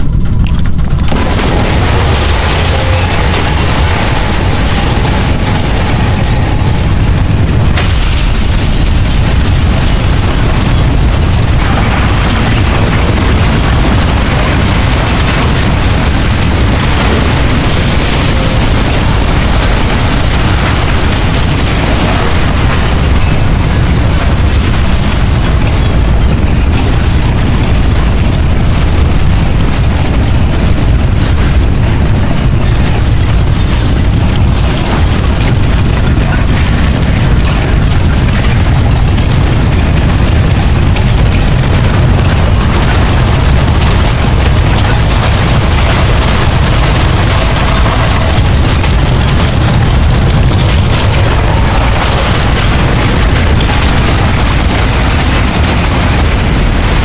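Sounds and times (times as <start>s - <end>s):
crackling and crumbling: 0.0s - 57.0s
deep earthquake rumble: 0.0s - 57.0s.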